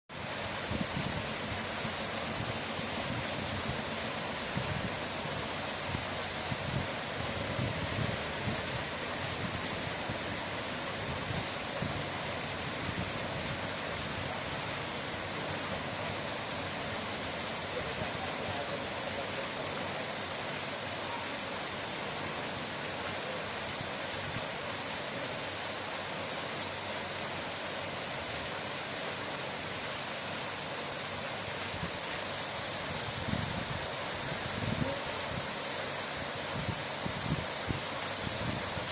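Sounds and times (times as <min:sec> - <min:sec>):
rushing water: 0:00.1 - 0:38.9.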